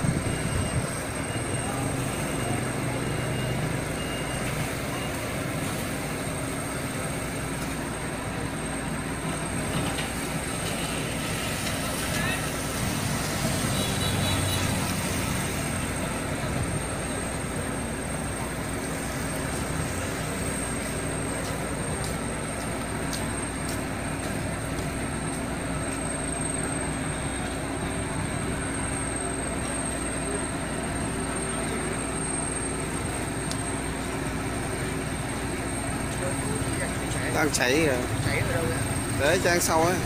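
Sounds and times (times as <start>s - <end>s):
fire engine droning: 0.0s - 40.0s.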